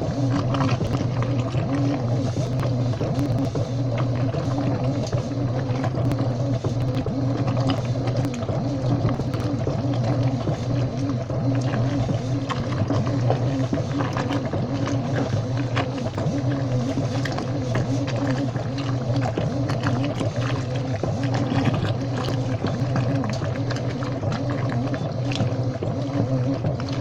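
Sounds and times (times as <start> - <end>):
washing machine motor hum: 0.0 - 27.0.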